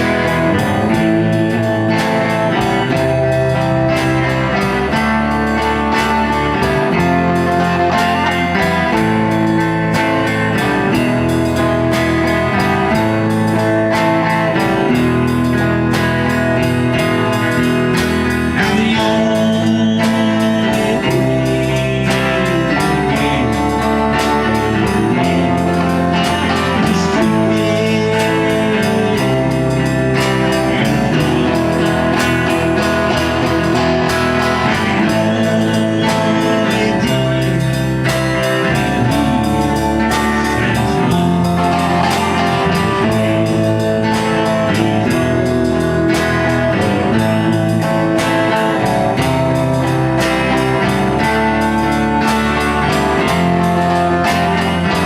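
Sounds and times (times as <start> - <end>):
blues-rock band playing: 0.0 - 55.0.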